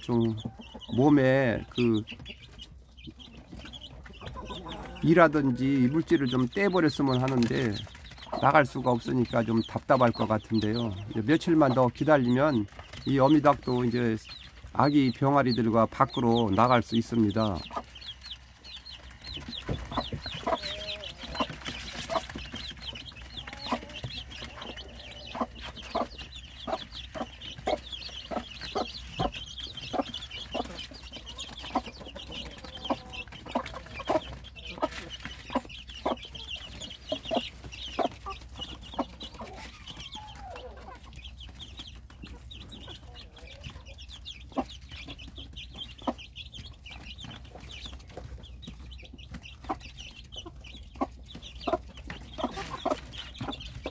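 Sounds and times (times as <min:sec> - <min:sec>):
beaks pecking at feed: 0:00.0 - 0:53.9
chicks peeping: 0:00.0 - 0:53.9
hen clucking: 0:00.0 - 0:53.9.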